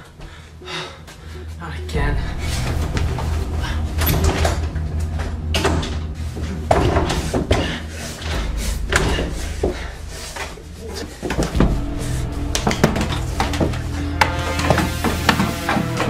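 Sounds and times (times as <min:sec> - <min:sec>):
low steady drone: 0:00.0 - 0:16.0.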